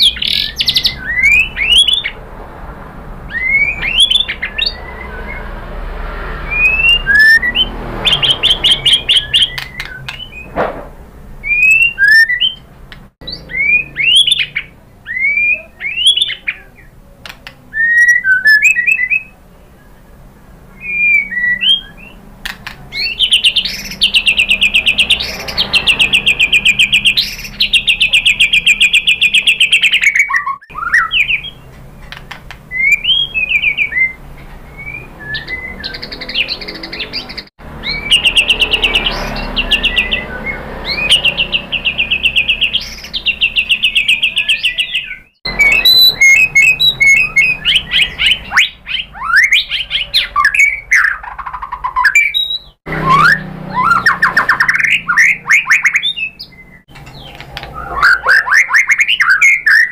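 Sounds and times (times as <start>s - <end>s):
bird whistling song: 0.0s - 2.2s, 3.3s - 5.7s, 6.4s - 10.6s, 11.4s - 16.9s, 17.6s - 20.1s, 20.7s - 59.9s.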